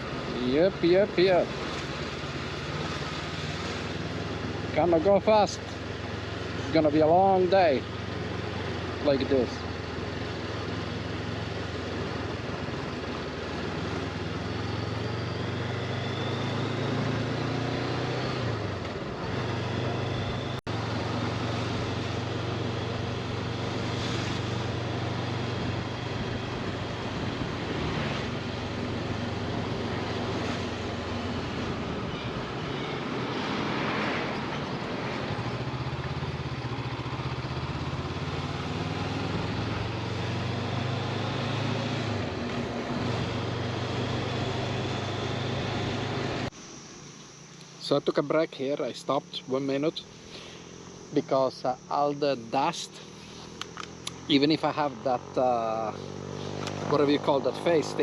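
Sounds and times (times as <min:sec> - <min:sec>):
motorcycle engine running: 0:00.0 - 0:34.0, 0:34.6 - 0:46.5, 0:49.2 - 0:58.0
wind and road noise: 0:00.0 - 0:58.0.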